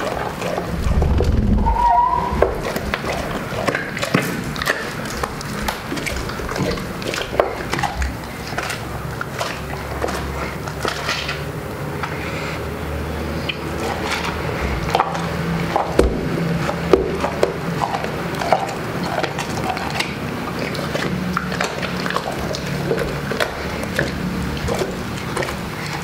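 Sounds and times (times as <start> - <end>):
dog crunching bones: 0.0 - 1.2, 2.3 - 26.0.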